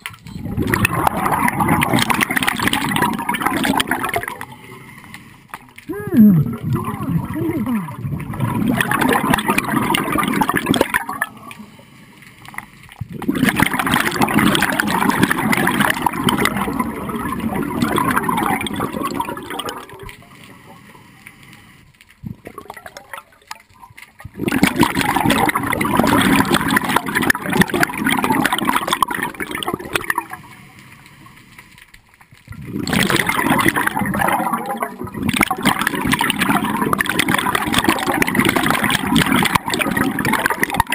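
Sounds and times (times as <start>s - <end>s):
scuba regulator bubbles gurgling: 0.0s - 40.9s.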